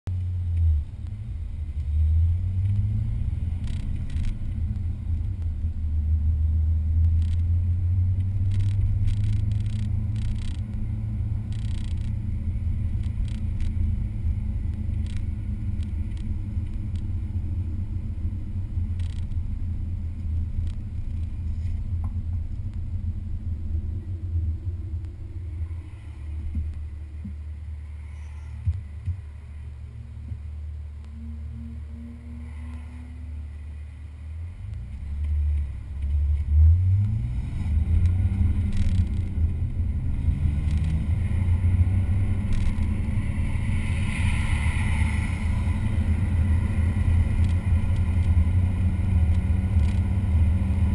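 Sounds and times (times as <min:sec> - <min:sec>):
vehicle rumbling on a track: 0:00.0 - 0:50.9.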